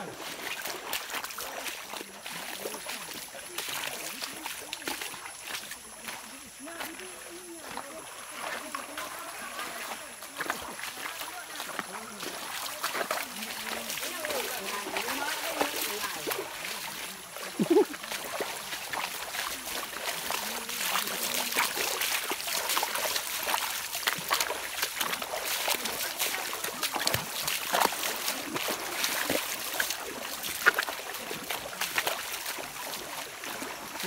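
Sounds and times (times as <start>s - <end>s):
feet splashing through water: 0.0s - 34.0s
stream trickling: 0.0s - 34.0s.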